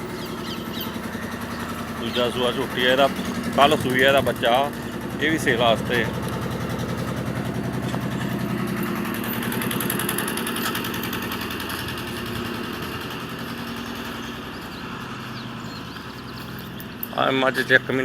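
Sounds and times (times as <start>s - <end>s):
engine running with fast beat: 0.0s - 18.0s.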